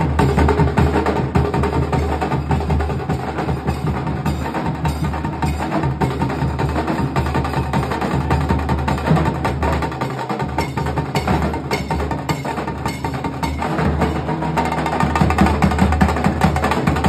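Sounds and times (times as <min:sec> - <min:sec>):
barrel drums beaten fast: 0:00.0 - 0:17.0.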